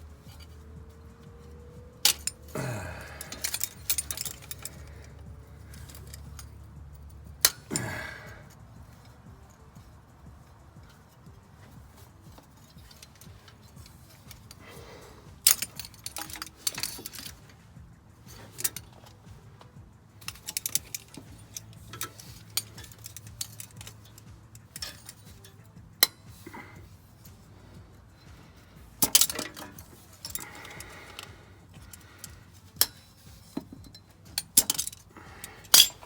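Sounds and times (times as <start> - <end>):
metal hand tools clinking: 0.0 - 36.0.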